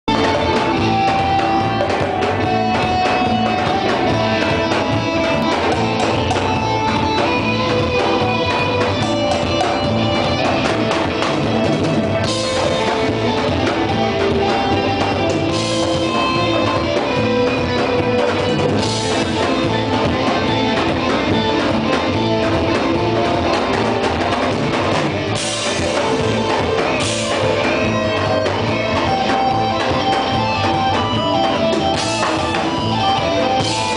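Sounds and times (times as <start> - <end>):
drum kit: 0.0 - 33.9
electric guitar lead notes: 0.0 - 33.9.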